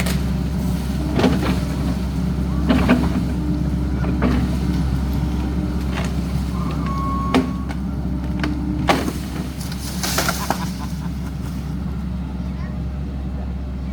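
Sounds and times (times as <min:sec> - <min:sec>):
diesel engine running: 0:00.0 - 0:13.9.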